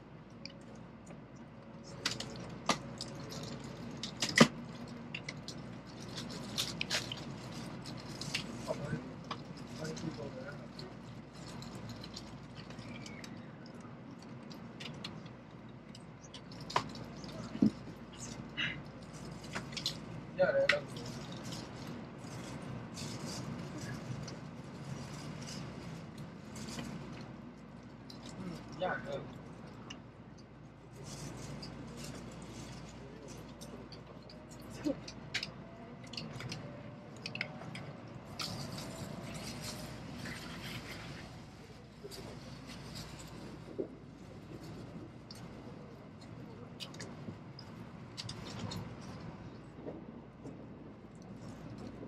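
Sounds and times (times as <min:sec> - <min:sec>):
train cabin rumble and hiss: 0:00.9 - 0:52.0.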